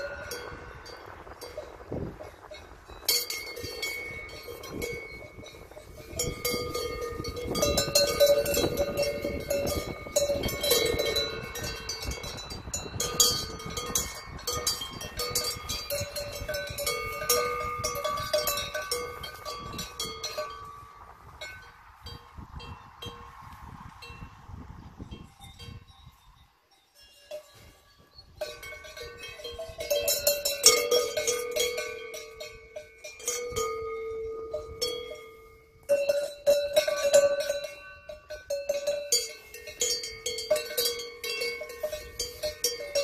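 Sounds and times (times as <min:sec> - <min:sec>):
cowbells clanking: 0:00.0 - 0:23.3, 0:25.1 - 0:43.0.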